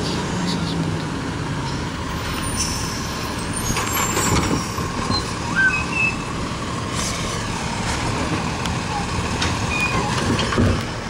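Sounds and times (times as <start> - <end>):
garbage truck engine running: 1.1 - 11.0.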